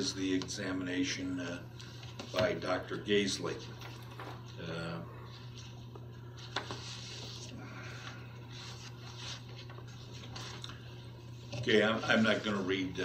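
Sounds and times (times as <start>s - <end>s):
low electrical hum: 0.0s - 13.0s
faint rubbing and rustling: 1.8s - 13.0s.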